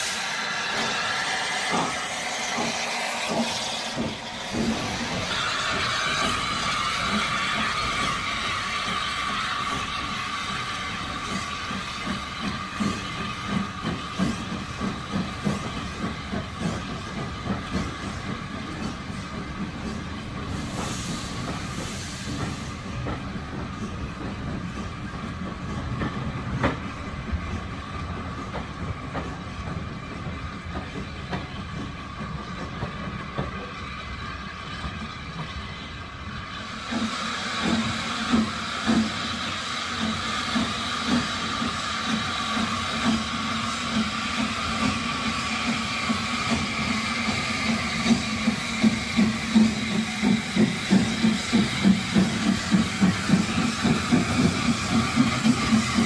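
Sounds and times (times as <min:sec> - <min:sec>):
low train rumble: 0:00.0 - 0:56.0
steam hissing: 0:00.0 - 0:56.0
steam locomotive chuffing: 0:00.0 - 0:56.0.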